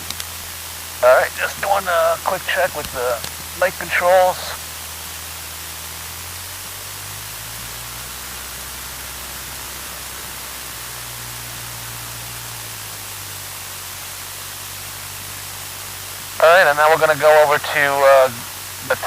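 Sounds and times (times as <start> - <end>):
aircraft engine droning: 0.0 - 19.0
intercom hiss: 0.6 - 6.5, 7.1 - 19.0.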